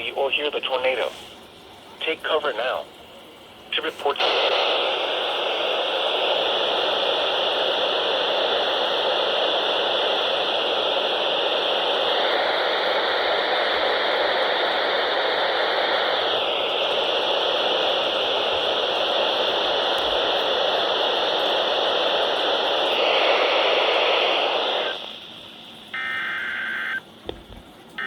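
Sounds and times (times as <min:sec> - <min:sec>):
radio static hiss: 0:00.0 - 0:01.4, 0:02.0 - 0:02.9, 0:03.7 - 0:27.5.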